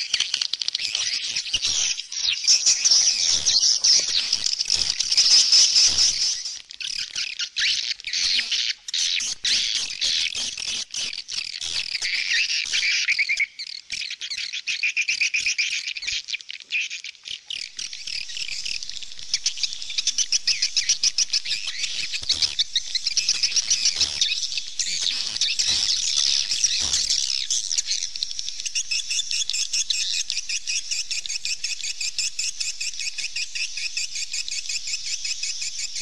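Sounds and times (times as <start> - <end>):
swallows twittering: 0.0 - 36.0.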